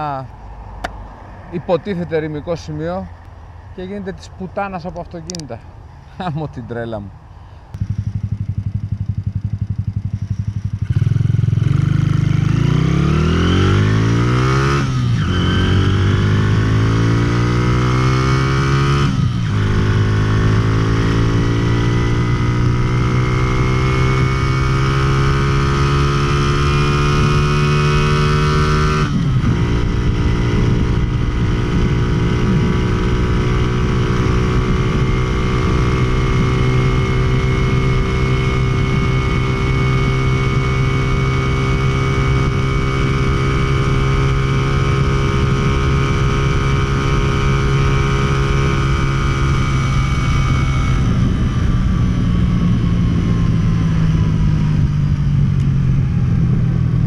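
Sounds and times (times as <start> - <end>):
motorcycle engine revving: 7.5 - 57.0.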